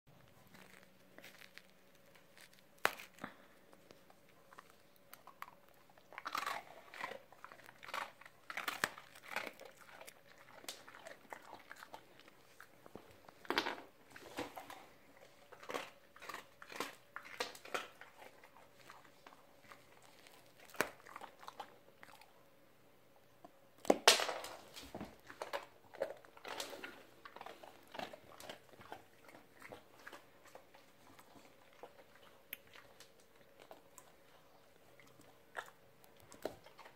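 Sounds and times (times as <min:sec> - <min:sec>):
dog crunching biscuits: 0:00.1 - 0:22.4, 0:23.8 - 0:36.9.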